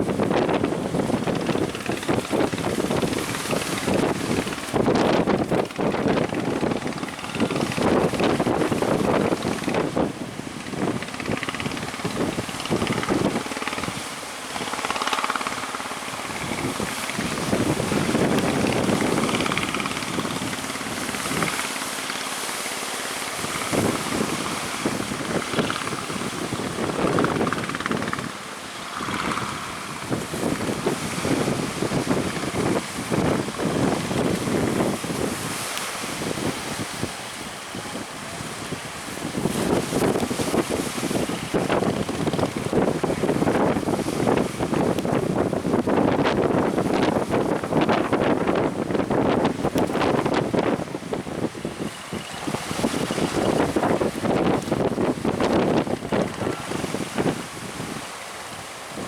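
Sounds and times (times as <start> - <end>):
sea surf: 0.0 - 59.0
wind buffeting microphone: 0.0 - 59.0.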